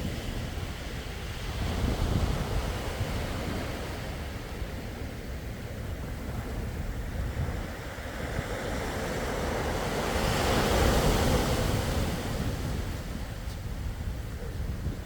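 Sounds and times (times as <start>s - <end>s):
sea waves washing in: 0.0s - 14.4s
wind rumble on microphone: 0.0s - 15.0s.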